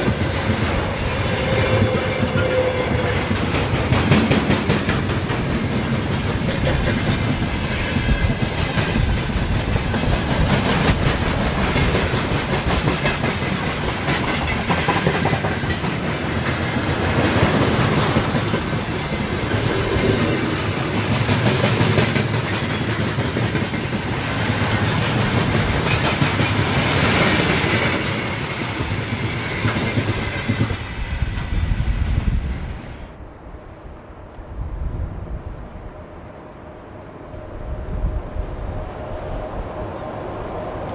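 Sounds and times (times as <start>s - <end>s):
train wheels clattering over rails: 0.0s - 33.0s.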